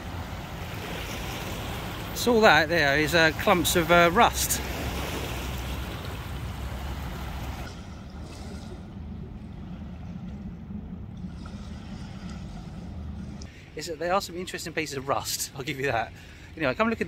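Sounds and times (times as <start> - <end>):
riverside background hiss: 0.0 - 8.0, 10.9 - 17.0
steady low rumble: 1.5 - 17.0.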